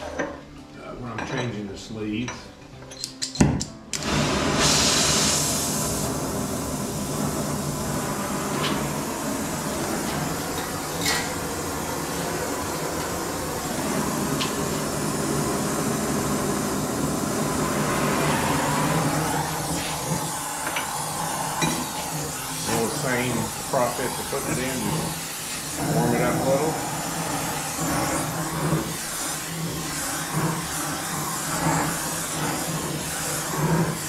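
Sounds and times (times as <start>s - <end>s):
torch flame hissing: 4.0s - 34.0s.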